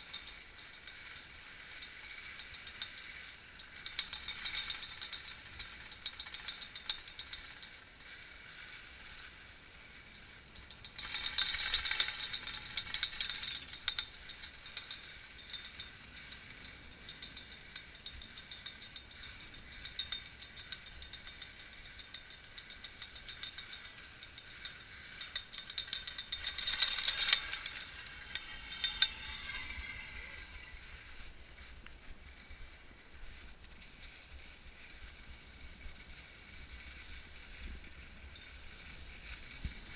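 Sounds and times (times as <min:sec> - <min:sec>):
ski lift mechanical ticking and rattle: 0:00.0 - 0:39.9.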